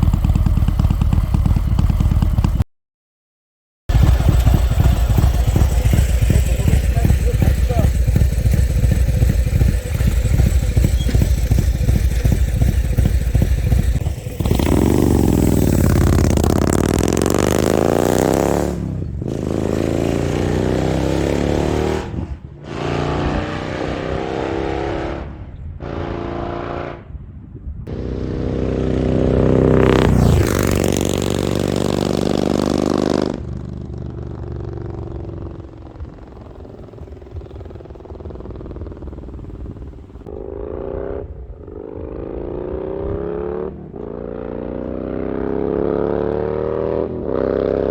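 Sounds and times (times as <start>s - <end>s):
motorcycle engine rumbling: 0.0s - 2.6s, 3.9s - 47.9s.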